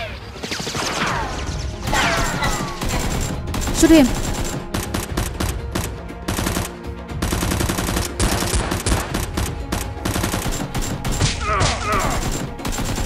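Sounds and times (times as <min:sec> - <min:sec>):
automatic gunfire: 0:02.0 - 0:13.0.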